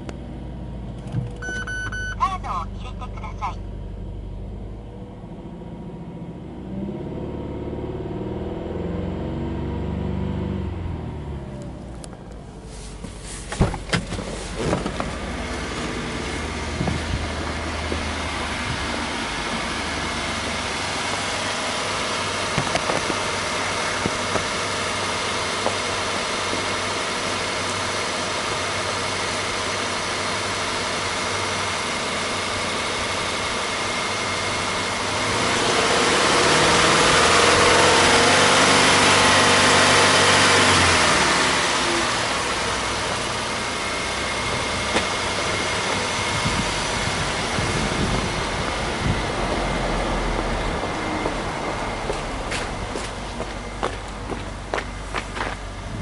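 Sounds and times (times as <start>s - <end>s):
car engine idling: 0.0s - 8.3s, 10.6s - 56.0s.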